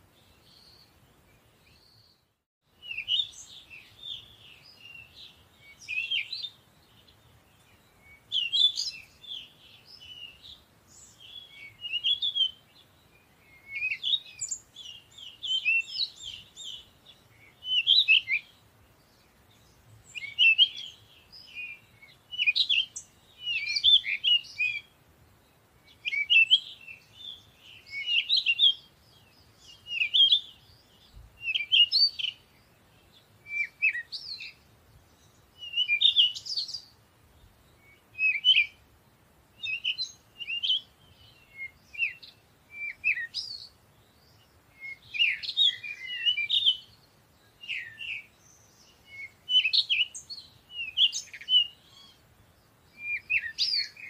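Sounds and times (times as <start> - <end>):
high-pitched birdsong: 0.1 - 39.0, 39.6 - 54.0.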